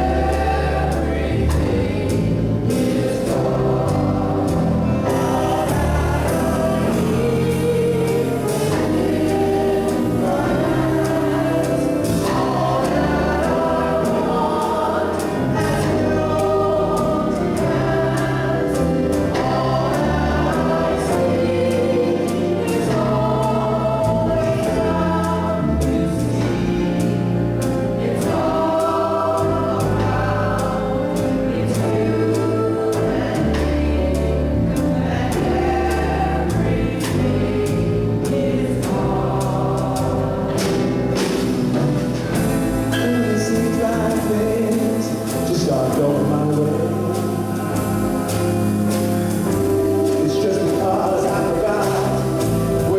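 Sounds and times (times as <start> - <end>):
band accompaniment: 0.0 - 52.9
bass line: 0.0 - 52.9
choir singing gospel song: 0.0 - 52.9.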